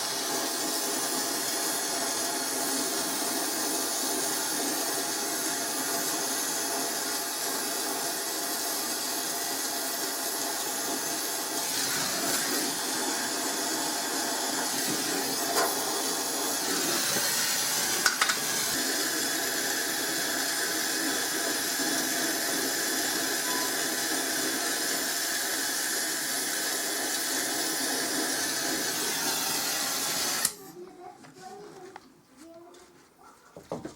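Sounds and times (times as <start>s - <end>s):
mechanical running noise with hiss: 0.0s - 30.6s.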